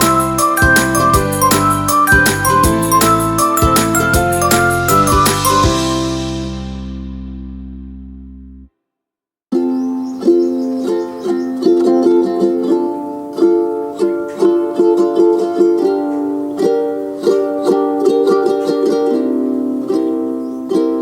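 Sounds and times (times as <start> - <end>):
strummed ukulele tune: 0.0 - 8.1, 9.5 - 21.0.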